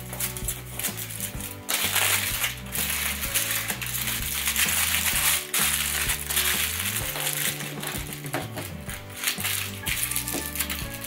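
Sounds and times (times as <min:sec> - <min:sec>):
aluminium foil crinkling: 0:00.0 - 0:11.0
background music with bass line: 0:00.0 - 0:11.0.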